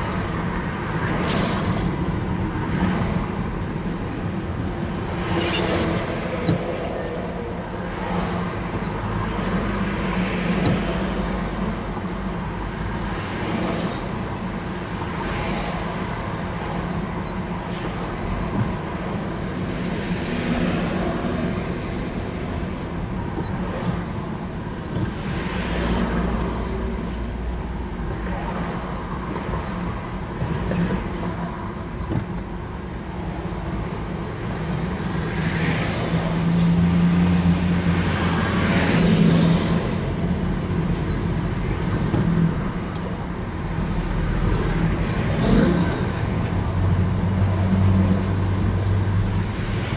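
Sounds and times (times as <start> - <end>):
car road noise on highway: 0.0 - 49.9
vehicles passing: 0.0 - 49.9.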